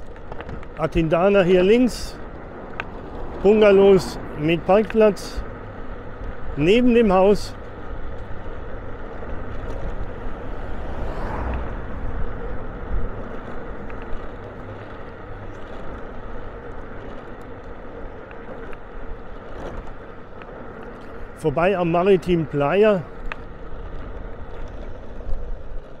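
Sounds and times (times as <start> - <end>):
vehicle engine and tyre noise: 0.0 - 26.0.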